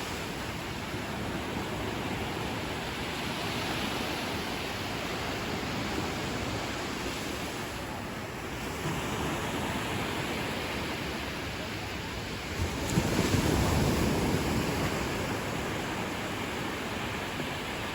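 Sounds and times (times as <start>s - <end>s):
ocean waves on a beach: 0.0s - 17.9s.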